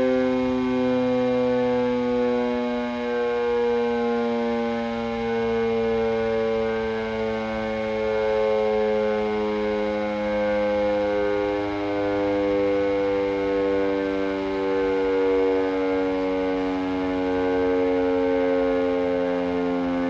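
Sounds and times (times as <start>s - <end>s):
electric motor siren wail: 0.0s - 20.0s.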